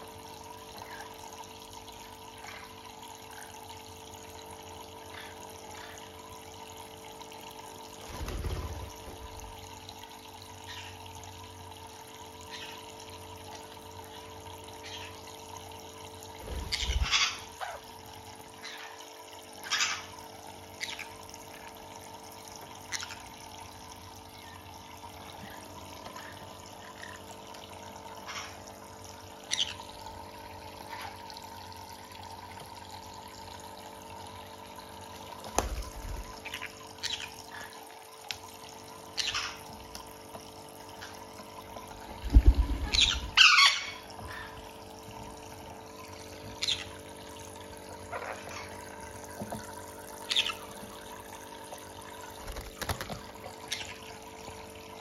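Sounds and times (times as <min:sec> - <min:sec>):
water trickling into basin: 0:00.0 - 0:55.0.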